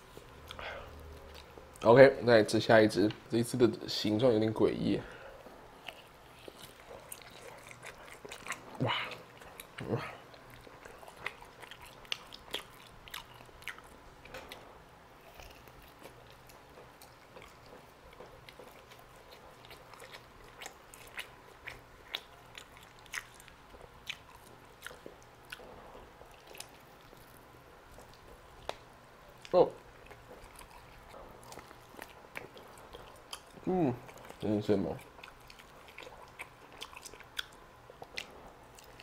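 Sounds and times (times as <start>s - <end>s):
person chewing meat: 0.0s - 2.0s, 5.0s - 39.0s.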